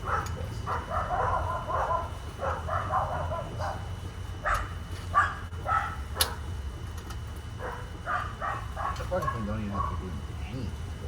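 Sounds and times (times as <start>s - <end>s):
dog barking: 0.0s - 6.4s, 7.6s - 10.2s.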